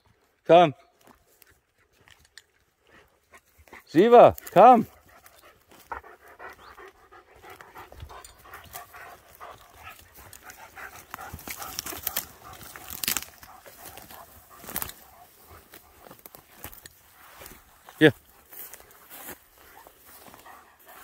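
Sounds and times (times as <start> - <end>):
twigs crackling underfoot: 0.0 - 21.0
dog panting: 1.6 - 17.0, 18.3 - 21.0.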